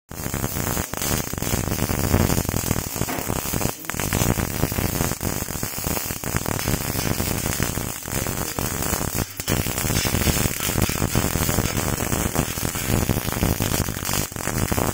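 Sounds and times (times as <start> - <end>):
welding arc crackling: 0.1 - 14.9.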